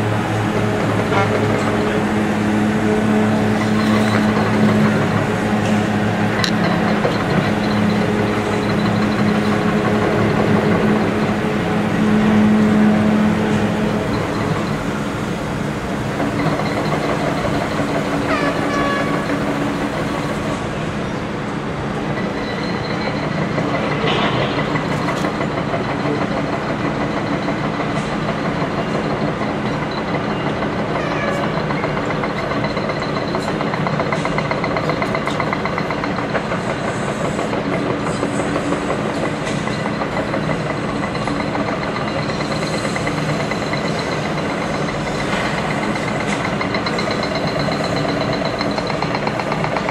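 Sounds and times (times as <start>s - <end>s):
diesel engine running: 0.0s - 49.9s
hydraulic hammer pounding: 0.0s - 49.9s.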